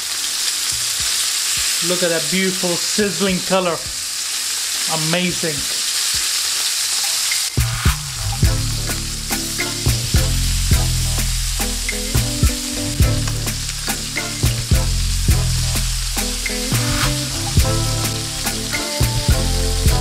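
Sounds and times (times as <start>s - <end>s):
chicken sizzling in oil: 0.0s - 20.0s
background music with steady beat: 0.6s - 2.5s, 3.2s - 4.1s, 5.6s - 6.4s, 7.0s - 20.0s.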